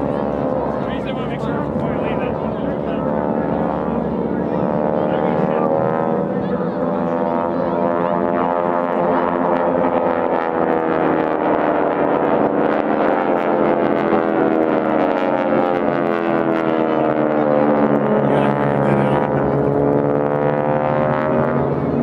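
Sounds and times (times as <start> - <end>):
propeller planes droning overhead: 0.0 - 22.0.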